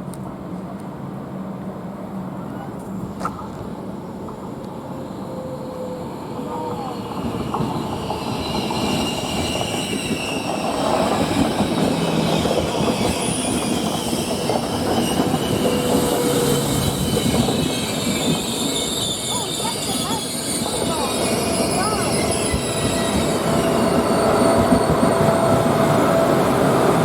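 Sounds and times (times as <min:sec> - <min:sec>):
train rumble on rails: 0:00.0 - 0:27.0
train wheels squealing: 0:04.4 - 0:27.0.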